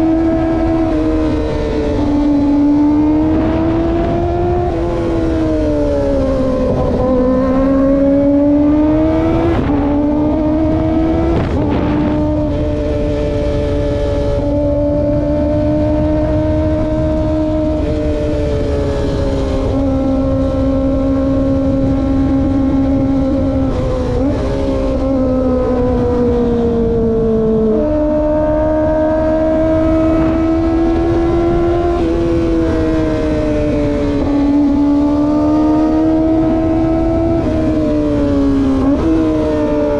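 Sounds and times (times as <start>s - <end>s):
motorcycle engine at high revs: 0.0s - 39.9s
wind rumble: 0.0s - 39.9s.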